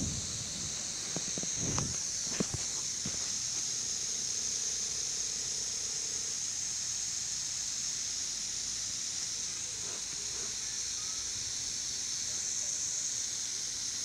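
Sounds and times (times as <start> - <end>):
lawn sprinkler hissing: 0.0 - 14.0.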